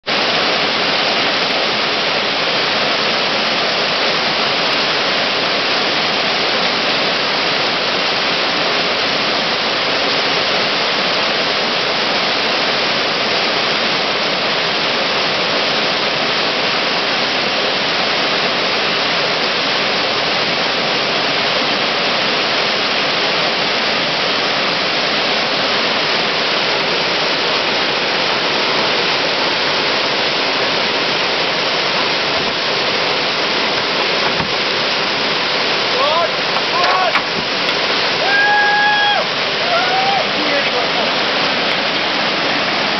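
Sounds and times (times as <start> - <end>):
waterfall rushing over boulders: 0.0 - 42.9.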